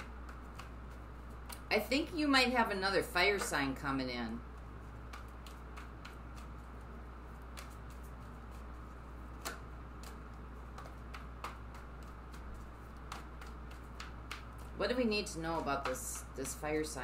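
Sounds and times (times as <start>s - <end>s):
cards being shuffled: 0.0s - 2.2s, 4.5s - 17.0s
steady low hum: 0.0s - 17.0s.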